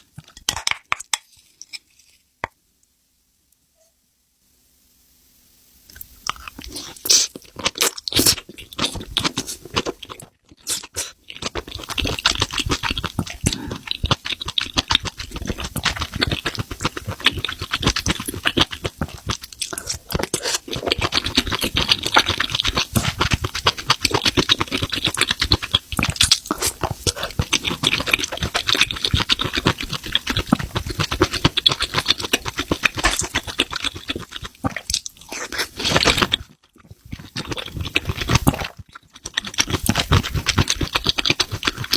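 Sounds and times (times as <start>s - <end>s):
wet chewing crunches: 5.9s - 41.9s.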